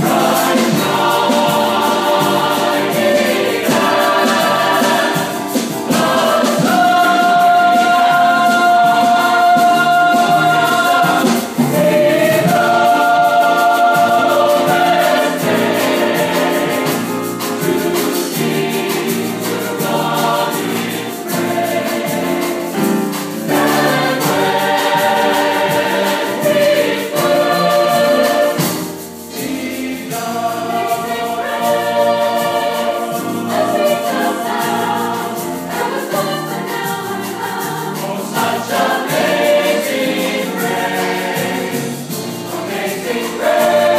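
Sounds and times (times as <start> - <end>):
mixed choir singing gospel: 0.0 - 43.9.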